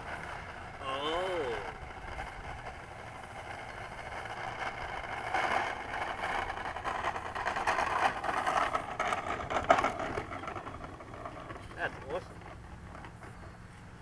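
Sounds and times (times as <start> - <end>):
model plane electric motor: 0.0 - 13.7
nose wheel bouncing on ground: 0.0 - 14.0.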